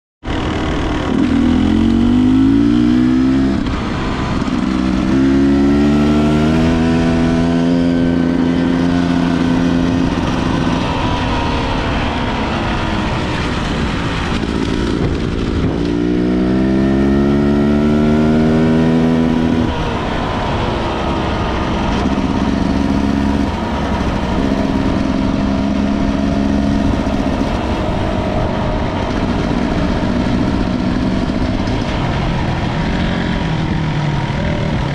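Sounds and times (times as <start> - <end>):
dirt bike engine accelerating: 0.2 - 34.9.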